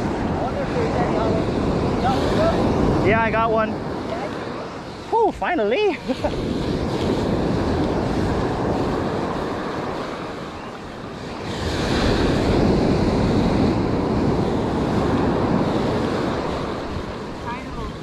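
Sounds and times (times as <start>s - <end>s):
surf washing on shore: 0.0s - 18.0s
wind buffeting microphone: 0.0s - 18.0s.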